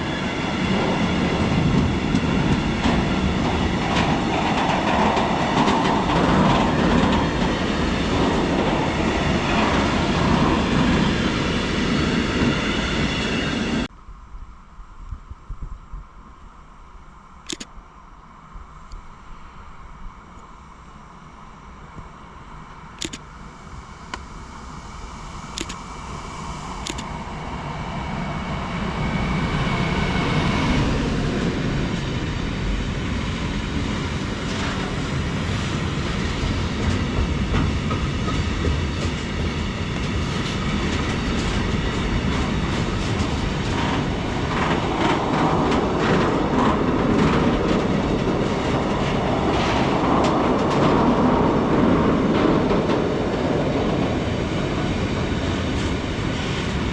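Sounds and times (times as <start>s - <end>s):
freight train rumbling: 0.0s - 13.9s, 21.2s - 56.9s.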